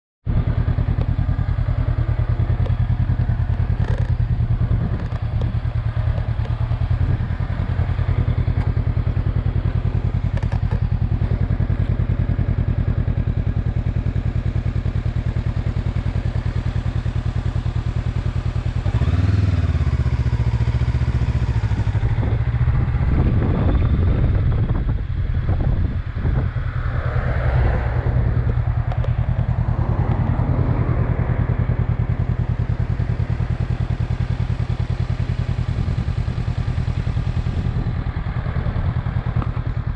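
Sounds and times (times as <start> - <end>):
motorcycle engine idling: 0.3 - 39.9.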